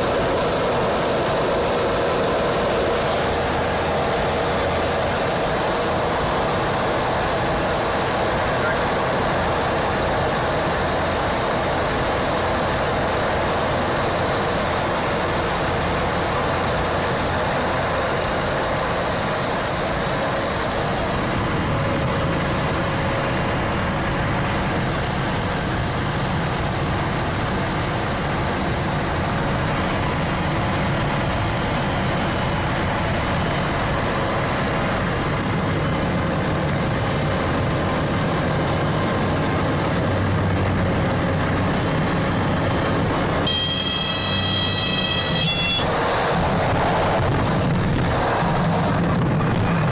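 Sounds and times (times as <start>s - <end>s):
high whine: 0.0s - 49.9s
propeller plane engine running: 0.0s - 49.9s.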